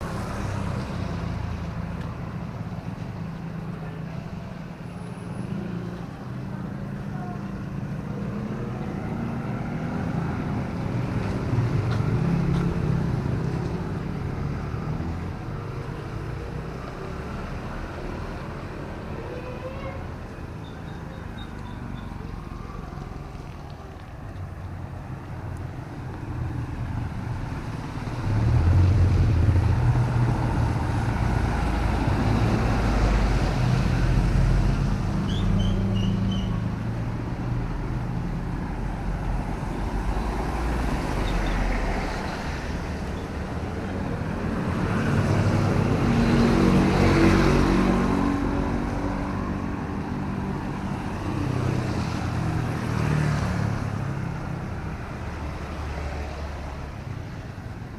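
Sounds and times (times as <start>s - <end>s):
traffic on wet road: 0.0s - 57.9s.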